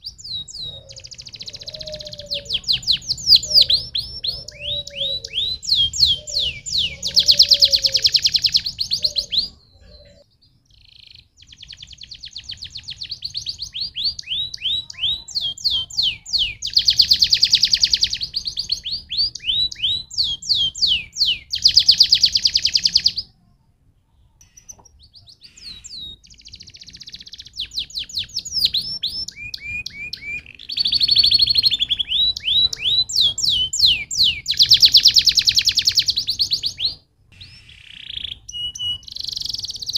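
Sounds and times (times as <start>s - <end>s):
canary singing trills: 0.0s - 23.3s, 24.2s - 39.9s.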